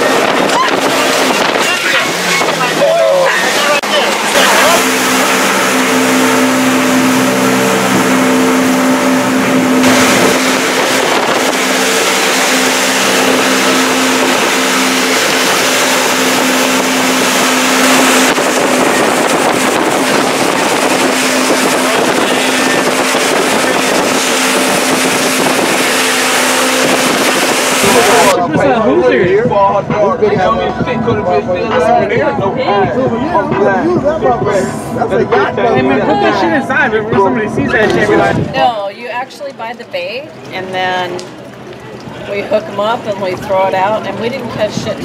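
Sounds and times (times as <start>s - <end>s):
water rushing in wake: 0.0s - 29.0s, 37.7s - 45.0s
motorboat engine drone: 0.0s - 45.0s.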